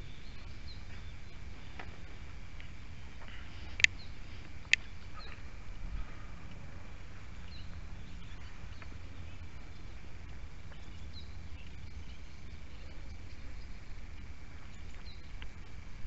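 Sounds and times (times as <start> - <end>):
faint bird chirps: 0.0 - 6.4, 7.3 - 15.8.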